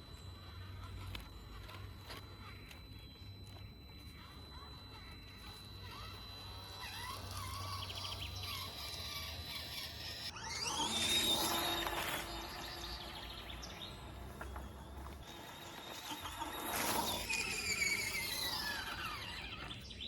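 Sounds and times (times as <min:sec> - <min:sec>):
small electric motor whining: 0:00.0 - 0:20.0.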